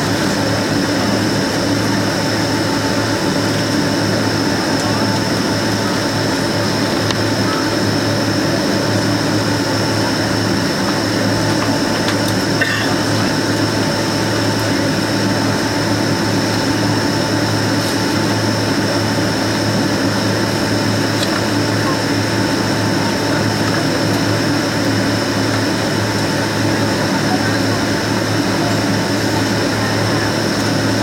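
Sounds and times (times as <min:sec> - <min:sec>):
jet engines humming: 0:00.0 - 0:31.0.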